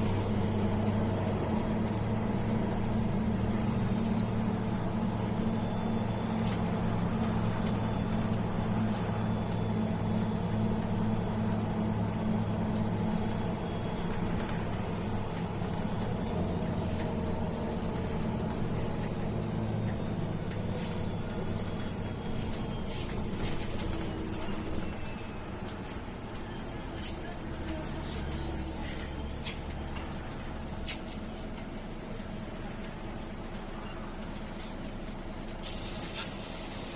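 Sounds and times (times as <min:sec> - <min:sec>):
bus diesel engine droning: 0:00.0 - 0:36.9.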